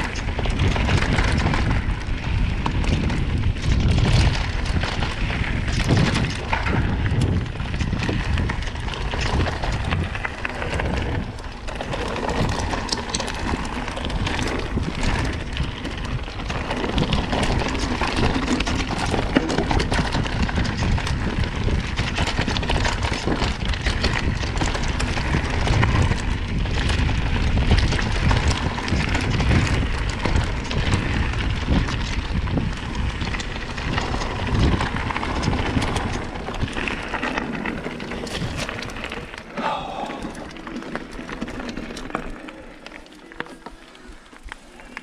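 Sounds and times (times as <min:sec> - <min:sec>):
bike rattling over bumps: 0:00.0 - 0:45.0
tyres crackling on trail: 0:00.0 - 0:45.0
wind buffeting microphone: 0:00.0 - 0:45.0.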